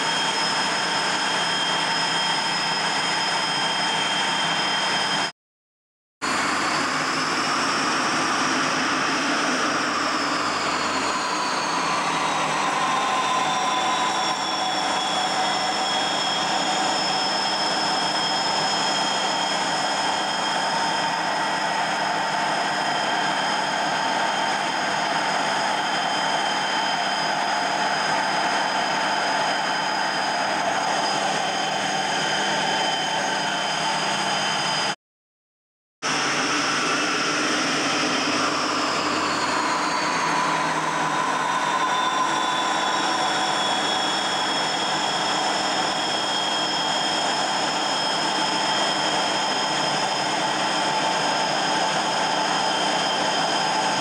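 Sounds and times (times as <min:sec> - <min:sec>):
jet engine high whine: 0:00.0 - 0:05.4, 0:06.2 - 0:35.0, 0:36.0 - 0:54.0.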